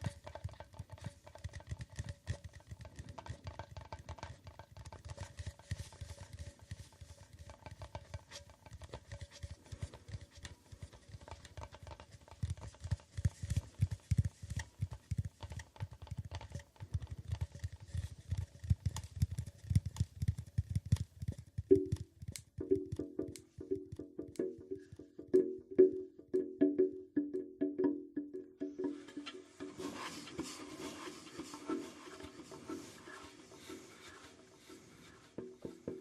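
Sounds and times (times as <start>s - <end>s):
fingertip tapping: 0.0s - 29.4s.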